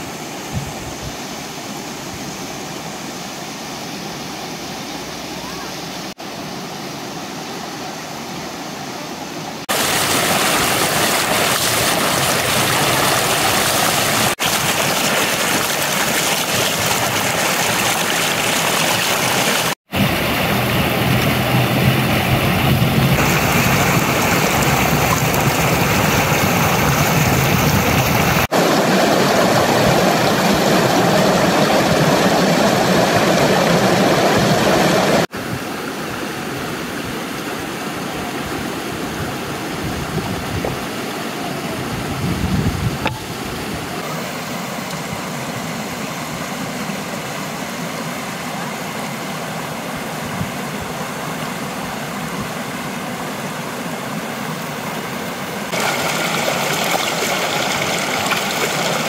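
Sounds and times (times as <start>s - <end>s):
river rushing over rocks: 0.0s - 42.2s, 43.0s - 59.0s.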